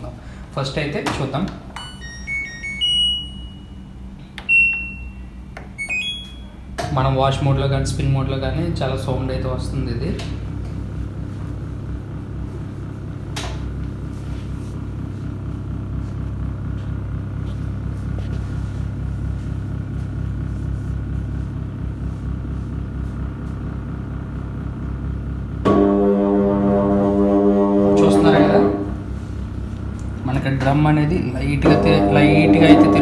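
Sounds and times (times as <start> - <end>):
washing machine rumbling: 0.0 - 33.0.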